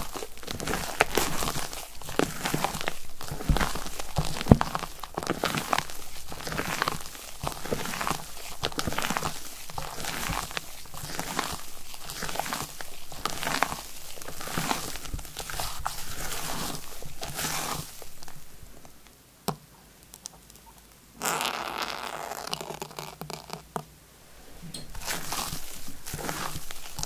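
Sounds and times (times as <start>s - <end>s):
spatula folding batter: 0.0s - 23.9s, 24.8s - 27.0s.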